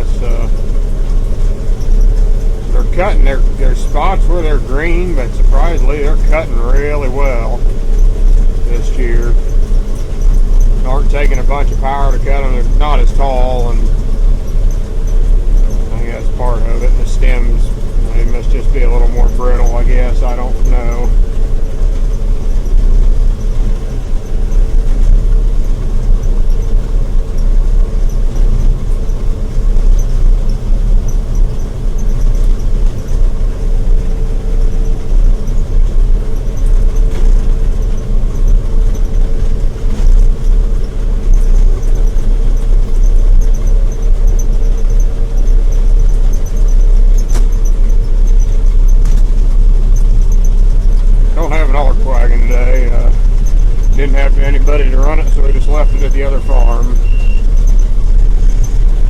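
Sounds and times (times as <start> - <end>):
combine harvester rumbling: 0.0 - 59.0.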